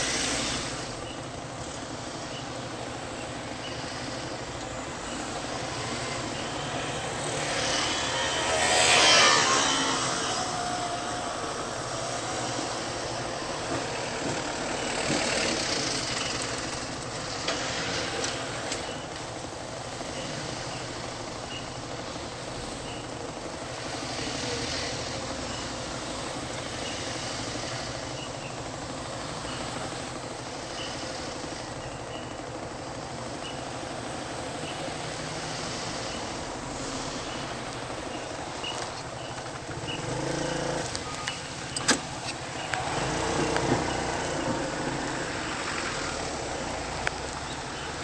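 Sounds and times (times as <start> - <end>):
hum of vehicle engines: 0.0 - 48.0
vehicles passing: 0.0 - 48.0.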